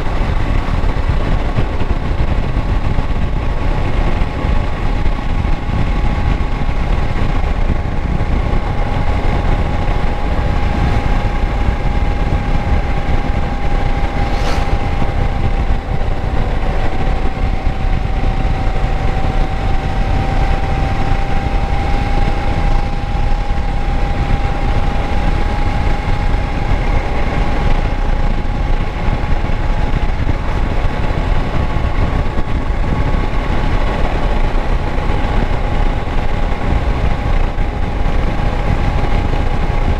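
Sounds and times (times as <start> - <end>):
steady whining tone: 0.0 - 39.9.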